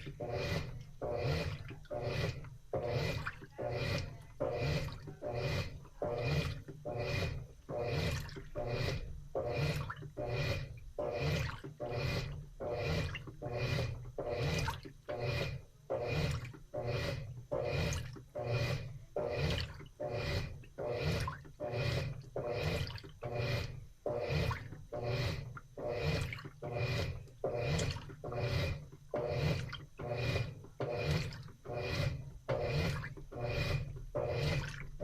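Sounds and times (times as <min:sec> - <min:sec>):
washing machine water sloshing: 0:00.0 - 0:35.0.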